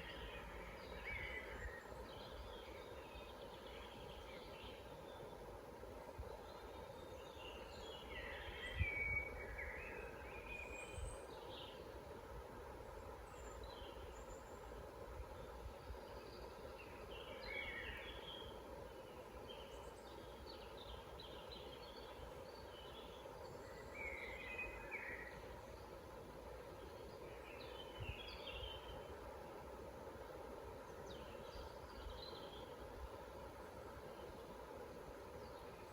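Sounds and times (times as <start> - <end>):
low background hiss: 0.0 - 35.9
songbirds chirping and warbling: 0.0 - 35.9.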